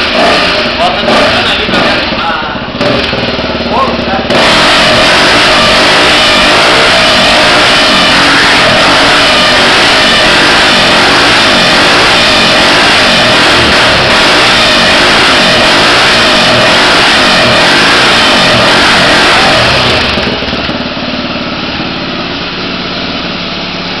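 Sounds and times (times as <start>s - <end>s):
motorcycle engine idling: 0.0s - 24.0s
motorcycle engine revving: 0.0s - 24.0s.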